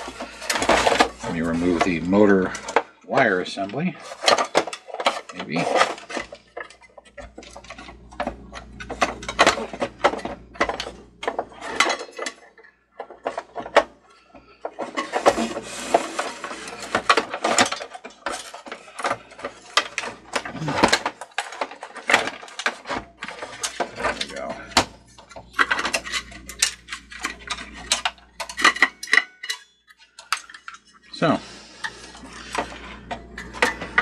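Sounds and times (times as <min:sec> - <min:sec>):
plastic and metal parts clicking: 0:00.0 - 0:30.9.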